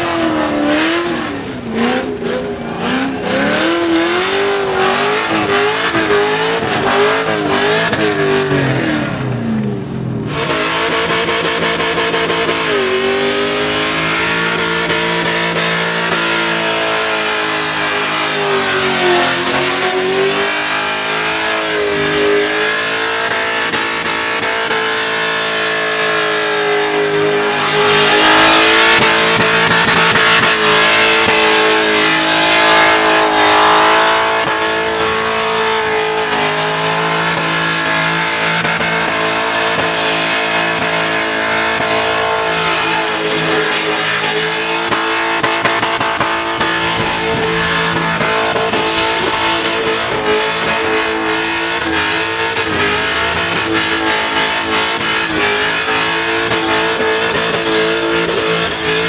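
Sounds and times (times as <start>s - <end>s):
engine revving hard: 0.0s - 9.4s, 10.3s - 59.0s.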